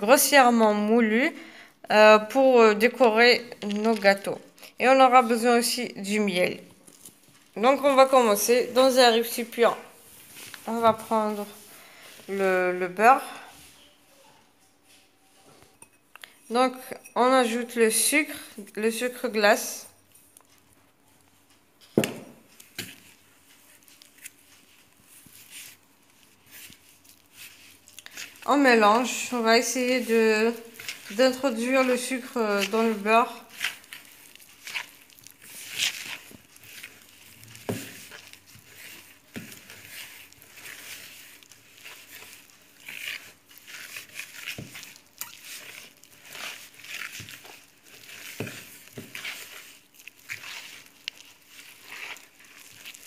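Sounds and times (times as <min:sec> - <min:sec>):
hand kneading butter in bowl: 0:00.0 - 0:01.3, 0:01.9 - 0:53.0.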